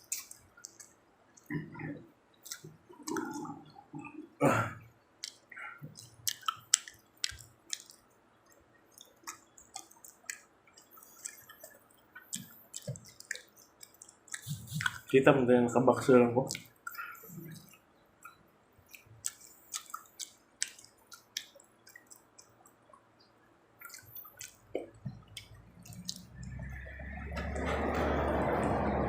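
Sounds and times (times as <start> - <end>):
wet mouth clicks and smacks: 0.0 - 4.2, 5.2 - 15.1, 16.5 - 23.0, 23.8 - 27.6
food being chewed: 0.0 - 4.3, 5.2 - 15.2, 16.5 - 23.1, 23.8 - 28.9.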